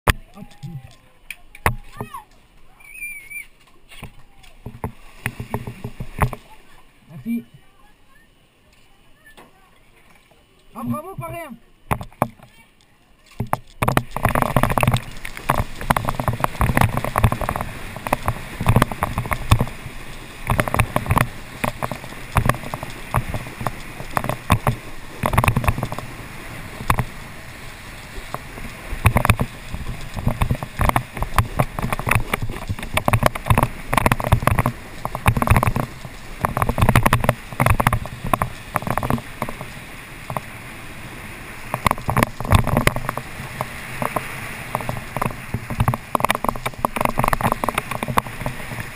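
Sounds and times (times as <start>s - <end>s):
wakeboard spray splashing: 0.1s - 48.9s.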